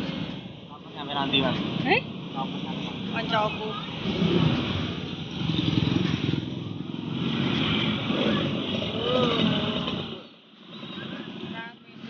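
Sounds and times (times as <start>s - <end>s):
motor scooter engines: 0.0s - 12.0s
road noise: 0.0s - 12.0s.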